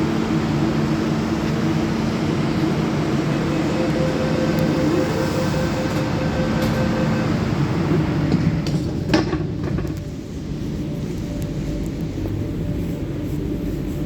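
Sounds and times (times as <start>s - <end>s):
train interior rumble and hum: 0.0s - 14.0s.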